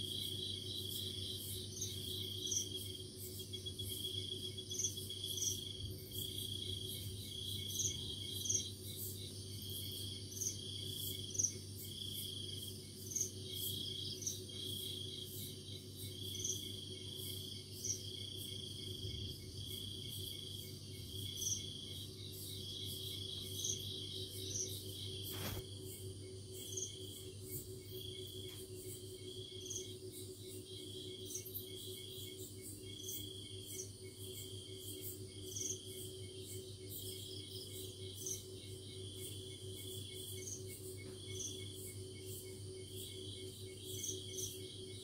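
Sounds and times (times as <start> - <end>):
crickets trilling: 0.0 - 45.0
steady low hum: 0.0 - 45.0.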